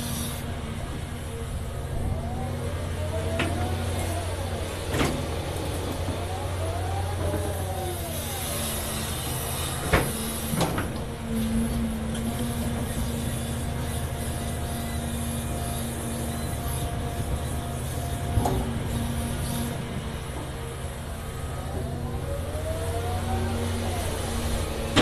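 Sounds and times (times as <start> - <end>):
excavator diesel engine: 0.0 - 25.0
hydraulic whine: 0.0 - 25.0.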